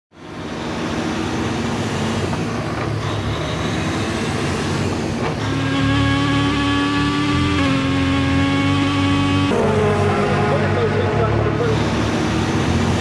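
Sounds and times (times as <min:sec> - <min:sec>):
truck engine rumbling: 0:00.1 - 0:13.0
higher held engine note: 0:01.3 - 0:13.0.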